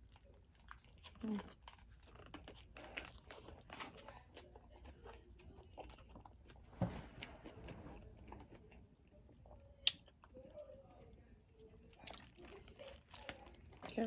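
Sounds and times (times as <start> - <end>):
chewing with crunches: 0.0 - 14.0.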